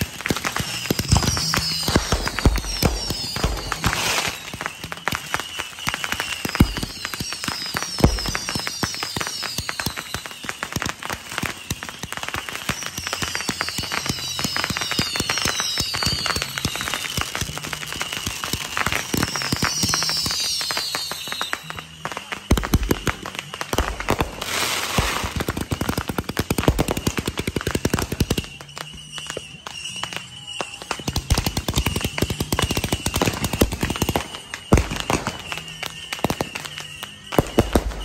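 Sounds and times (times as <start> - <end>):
falling whistles: 0.0 - 38.0
fireworks crackling: 0.0 - 38.0.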